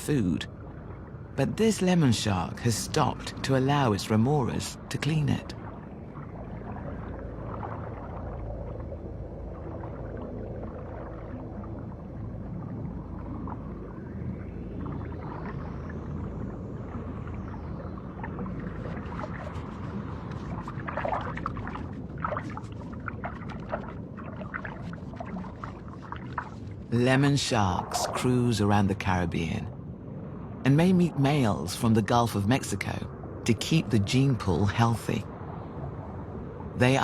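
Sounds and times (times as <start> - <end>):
underwater low rumble: 0.0 - 37.0.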